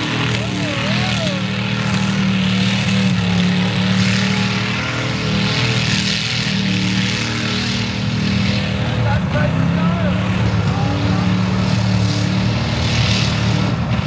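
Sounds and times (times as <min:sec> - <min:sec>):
tires spinning in mud: 0:00.0 - 0:14.0
truck engine at high revs: 0:00.0 - 0:14.0.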